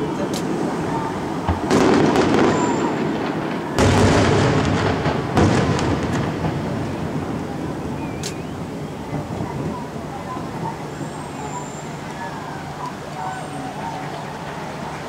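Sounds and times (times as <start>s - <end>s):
fireworks bursting: 0.0s - 12.1s
fireworks crackling: 0.0s - 15.0s.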